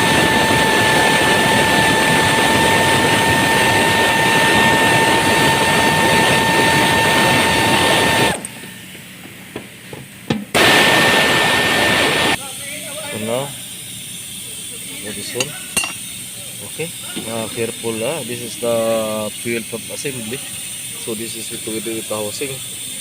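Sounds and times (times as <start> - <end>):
machine hum with high whine: 0.0 - 23.0.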